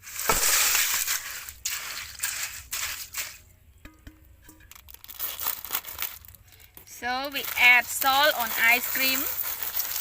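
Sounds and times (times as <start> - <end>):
ice cubes clinking: 0.0 - 3.4, 4.5 - 10.0
ice cubes crunching and scraping: 0.0 - 3.4, 4.7 - 10.0.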